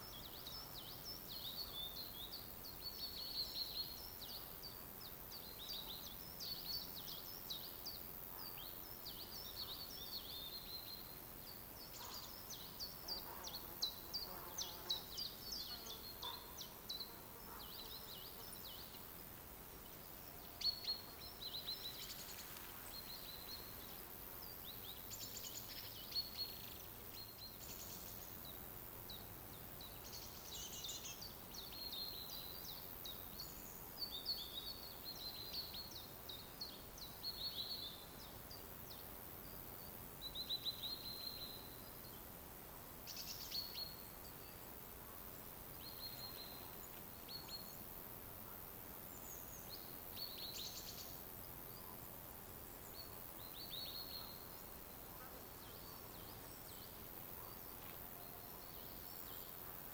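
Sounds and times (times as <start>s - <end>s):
faint forest ambience hiss: 0.0s - 59.9s
songbirds chirping: 0.0s - 59.9s.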